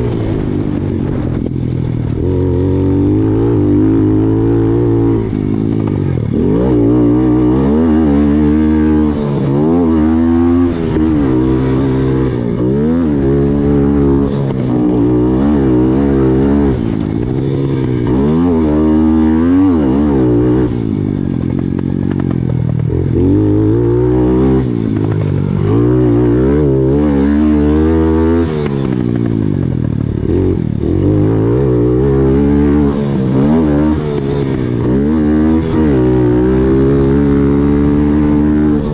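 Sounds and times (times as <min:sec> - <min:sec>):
pit bike engine revving: 0:00.0 - 0:38.9.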